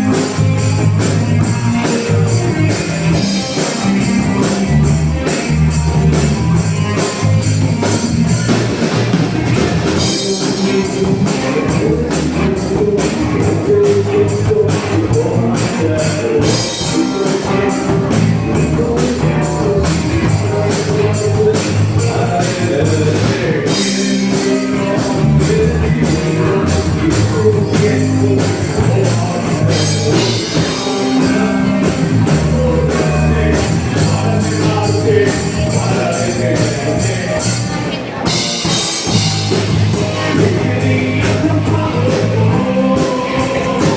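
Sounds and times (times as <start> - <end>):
drum kit driving beat: 0.0 - 43.9
live rock band playing: 0.0 - 43.9.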